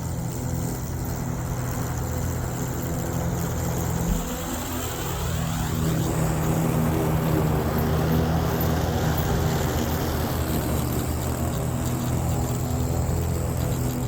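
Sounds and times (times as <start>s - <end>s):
electric lawnmower droning: 0.0s - 14.0s.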